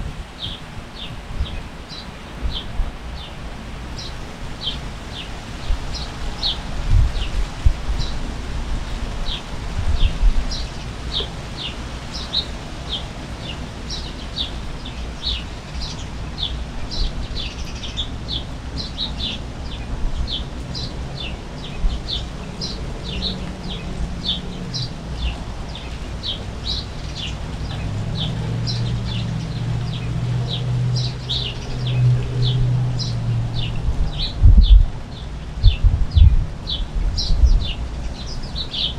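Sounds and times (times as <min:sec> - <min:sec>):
wind and rain rumble: 0:00.0 - 0:38.9.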